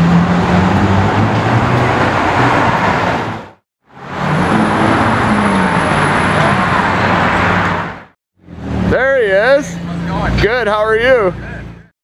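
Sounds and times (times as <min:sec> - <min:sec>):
street traffic: 0:00.0 - 0:11.9.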